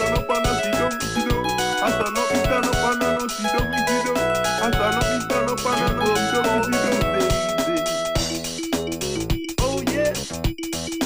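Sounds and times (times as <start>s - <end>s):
steady beat: 0.0s - 11.0s
synthesized ringtone melody: 0.0s - 11.0s.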